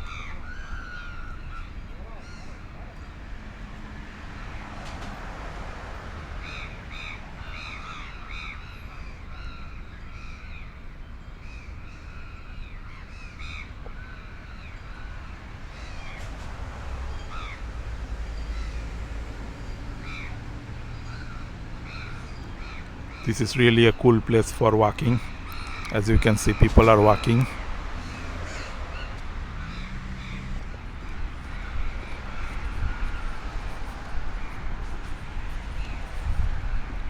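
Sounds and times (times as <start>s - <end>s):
birds calling: 6.4s - 37.0s.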